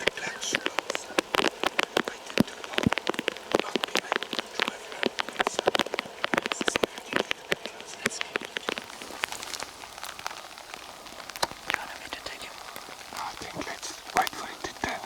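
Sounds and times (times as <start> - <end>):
rain falling: 0.0 - 15.0
raindrops ticking near microphone: 0.0 - 15.0.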